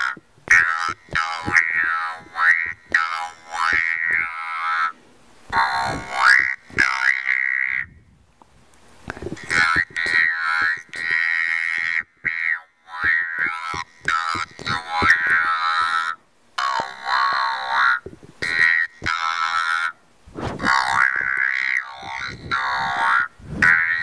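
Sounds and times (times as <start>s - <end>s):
talk box speech: 0.0s - 7.8s, 9.3s - 20.0s, 20.6s - 24.0s.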